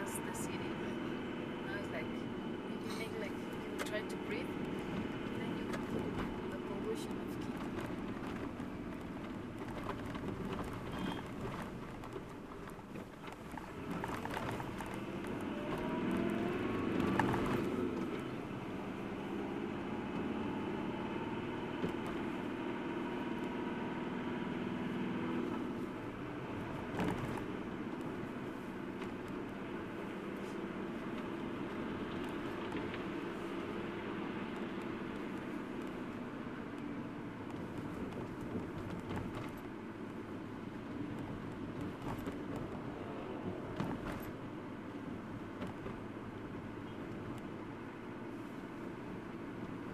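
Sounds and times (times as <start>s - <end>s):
car engine accelerating: 0.0s - 49.9s
road noise inside car: 0.0s - 49.9s.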